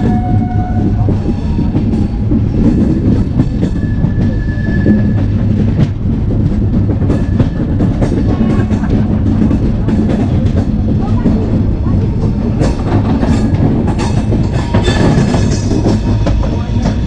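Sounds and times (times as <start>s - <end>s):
train wheels rumbling on rails: 0.0s - 17.0s
wind: 0.0s - 17.0s.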